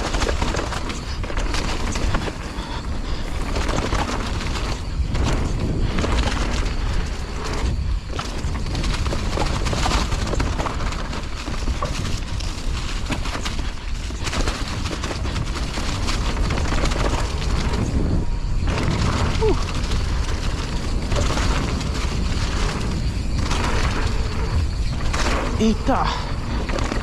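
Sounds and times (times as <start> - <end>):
bike chain and frame rattling: 0.0 - 27.0
bike tyres on dirt and rocks: 0.0 - 27.0
wind buffeting microphone: 0.0 - 27.0.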